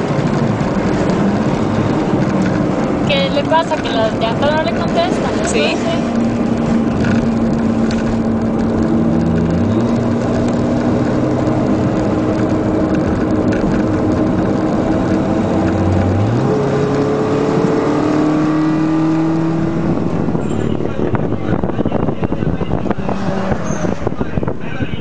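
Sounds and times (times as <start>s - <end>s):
racing car engine under load: 0.0s - 25.0s
road and wind noise: 0.0s - 25.0s.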